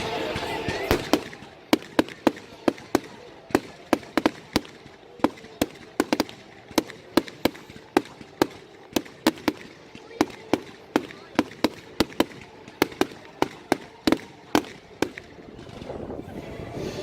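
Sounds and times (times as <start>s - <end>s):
fireworks bangs: 0.0s - 15.9s.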